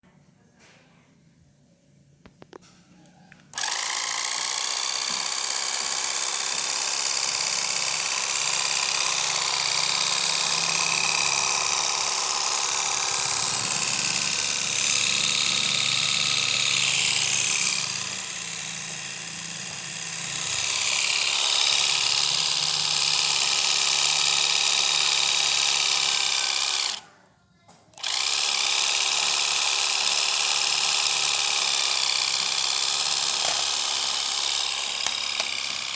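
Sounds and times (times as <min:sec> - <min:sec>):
small electric motors whirring: 0:03.3 - 0:27.2, 0:27.9 - 0:35.9.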